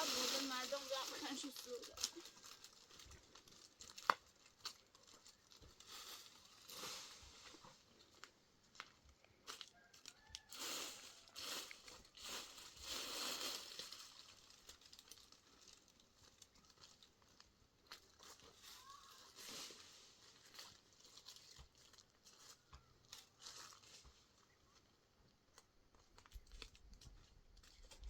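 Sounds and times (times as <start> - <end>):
faint rustling and crinkling: 0.0 - 28.0.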